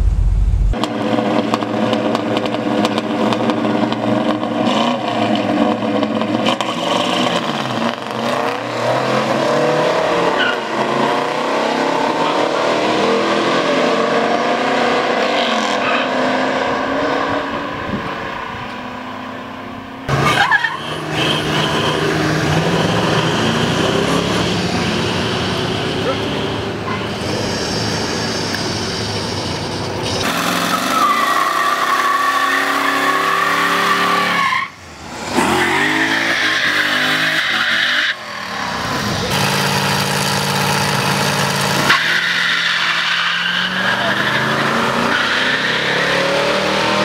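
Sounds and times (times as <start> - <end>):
muscle car engines revving: 0.7 - 47.0.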